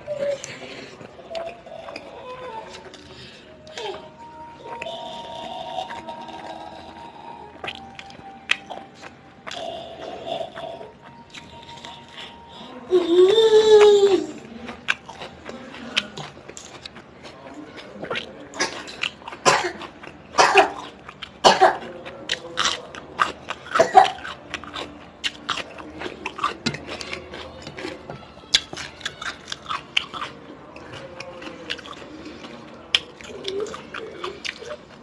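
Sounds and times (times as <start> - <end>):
person chewing and biting: 0.0 - 35.0.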